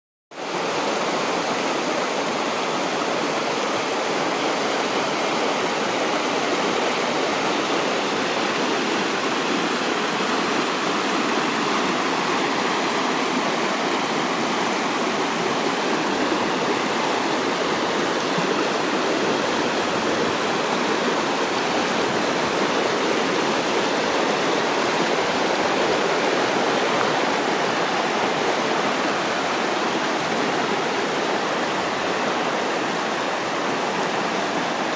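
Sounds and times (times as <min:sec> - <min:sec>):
river water rushing: 0:00.4 - 0:34.9.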